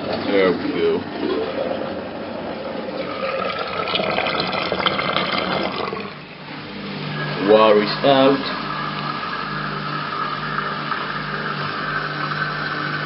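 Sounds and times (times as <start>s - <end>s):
water gurgling through drain pump: 0.0s - 13.0s.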